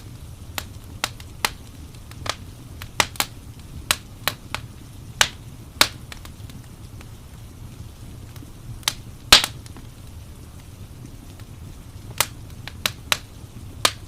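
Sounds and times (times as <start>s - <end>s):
low rumble of fire: 0.0s - 14.0s
wood fire crackling: 0.0s - 14.0s.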